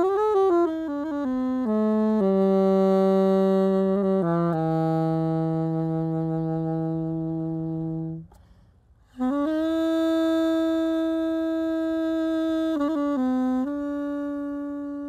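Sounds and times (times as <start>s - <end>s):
saxophone playing: 0.0s - 8.4s, 9.0s - 15.0s
held low note: 0.0s - 15.0s.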